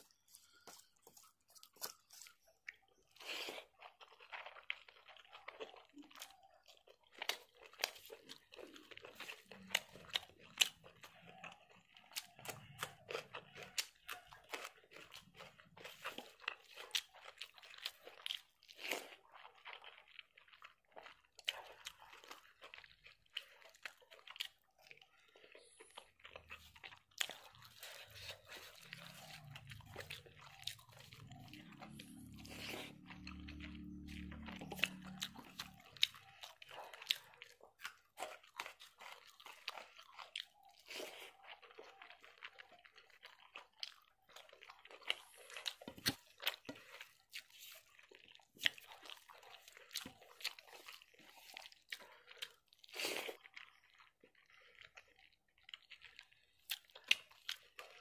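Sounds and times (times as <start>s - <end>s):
crunching puffed rice: 0.0s - 58.0s.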